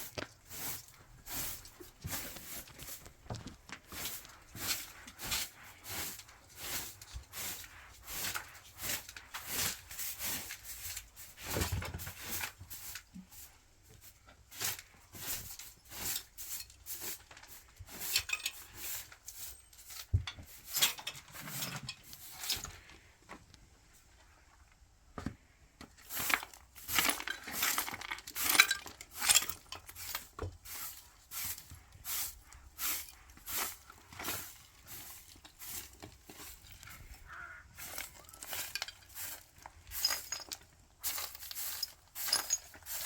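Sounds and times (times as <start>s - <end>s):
scraping and rubbing: 0.0s - 13.6s, 14.6s - 22.9s, 26.0s - 43.0s.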